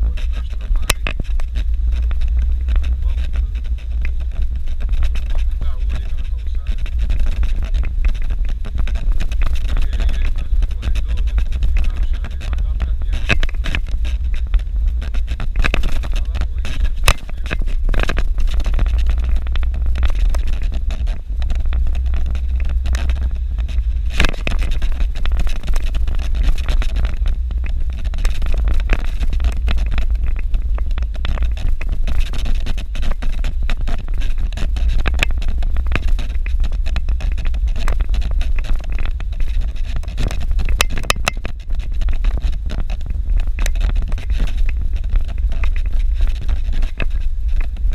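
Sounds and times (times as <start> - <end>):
engine and road rumble: 0.0 - 47.9.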